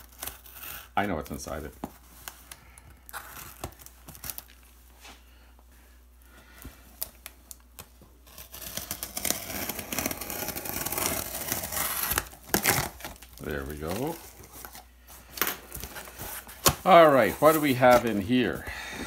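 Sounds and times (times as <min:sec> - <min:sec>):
plastic film crinkling and tearing: 0:00.0 - 0:04.7, 0:07.0 - 0:14.9, 0:15.7 - 0:18.6.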